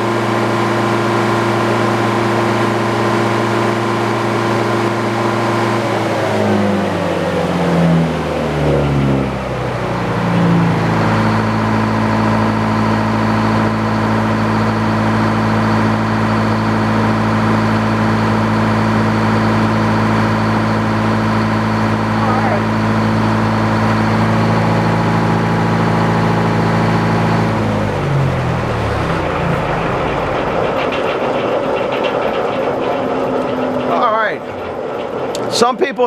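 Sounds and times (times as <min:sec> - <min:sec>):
sawmill engine running: 0:00.0 - 0:36.0.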